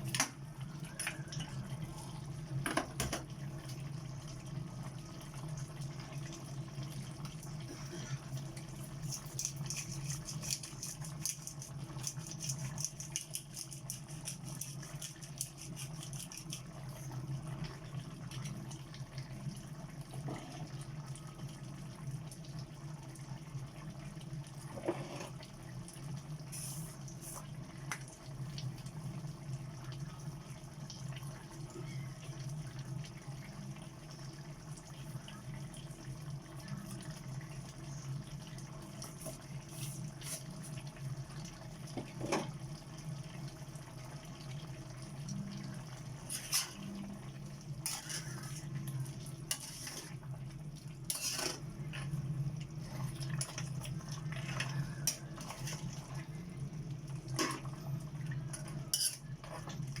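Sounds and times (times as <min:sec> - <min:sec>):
liquid sounds: 0:00.0 - 1:00.0.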